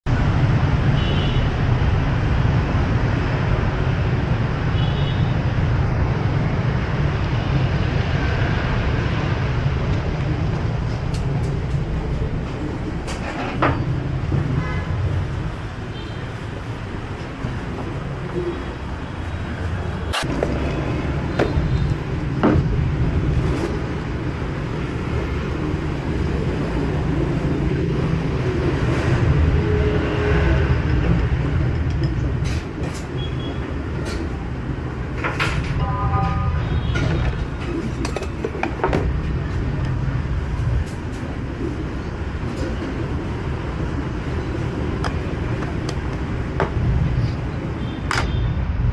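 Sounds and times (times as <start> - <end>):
city street traffic rumble: 0.0 - 48.9.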